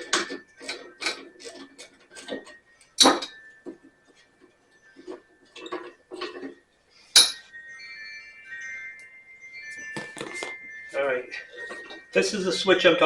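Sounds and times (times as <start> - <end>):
metal ringing: 0.0 - 4.1, 4.8 - 13.0
metal tools clanking: 0.0 - 13.0.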